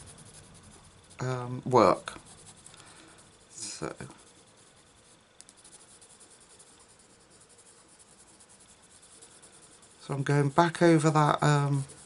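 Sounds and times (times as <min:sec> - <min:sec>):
pencil scratching on paper: 0:00.0 - 0:12.0.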